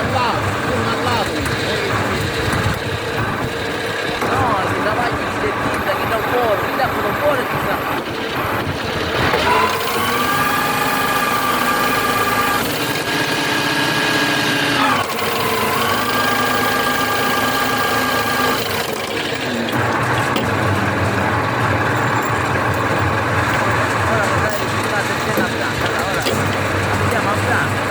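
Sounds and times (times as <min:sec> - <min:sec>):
farm machine engine: 0:00.0 - 0:27.9.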